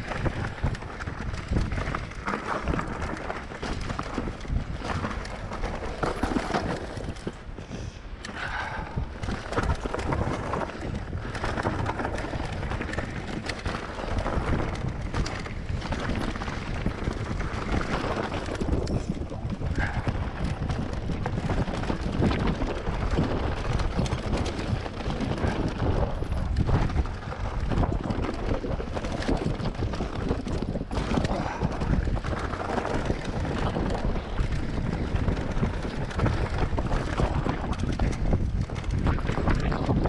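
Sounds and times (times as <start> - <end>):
bike rattling: 0.0 - 40.0
wind on microphone: 0.0 - 40.0.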